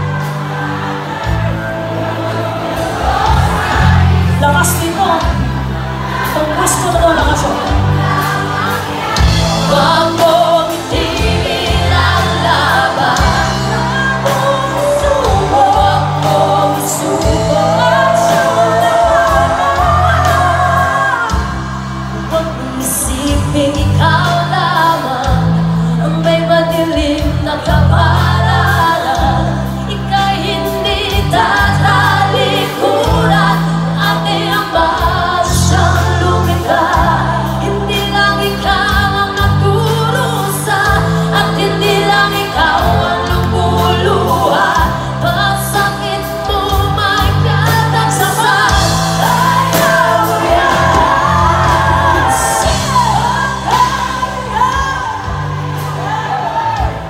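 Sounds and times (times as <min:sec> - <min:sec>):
bass line: 0:00.0 - 0:57.0
drums: 0:00.0 - 0:57.0
electric guitars: 0:00.0 - 0:57.0
keyboard: 0:00.0 - 0:57.0
woman singing: 0:00.0 - 0:57.0.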